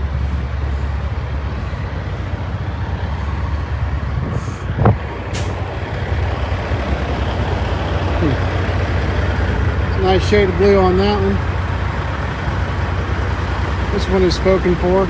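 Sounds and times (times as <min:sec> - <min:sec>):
diesel truck idling: 0:00.0 - 0:15.0.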